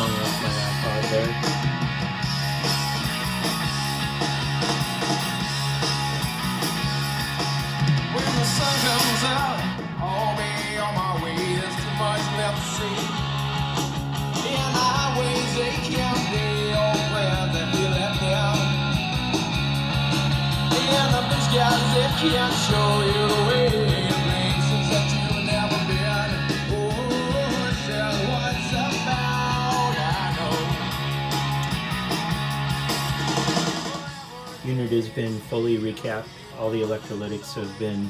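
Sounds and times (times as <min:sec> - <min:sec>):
rock song with guitar and singing: 0:00.0 - 0:38.0.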